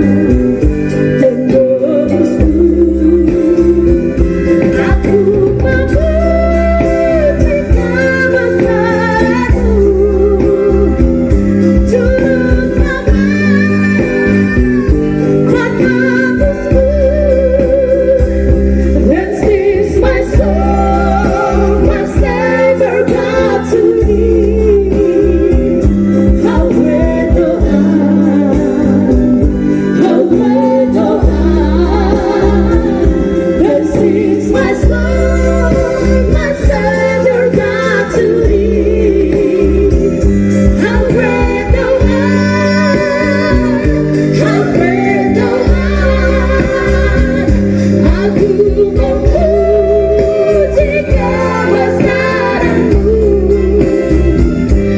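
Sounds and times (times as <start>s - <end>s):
group of voices singing: 0.0s - 54.9s
instrumental accompaniment with bass: 0.0s - 54.9s.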